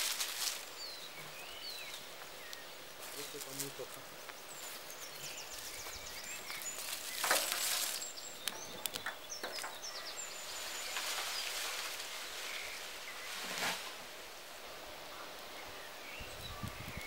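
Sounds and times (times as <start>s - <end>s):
twig fire crackling: 0.0s - 15.6s
rustling of dry branches: 0.0s - 17.0s
small birds chirping: 0.0s - 17.0s.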